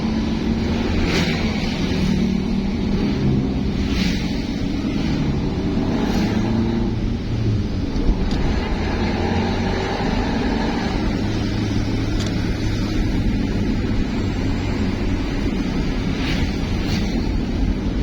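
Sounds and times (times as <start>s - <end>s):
road noise: 0.0s - 18.0s
vehicle engine droning: 0.0s - 18.0s.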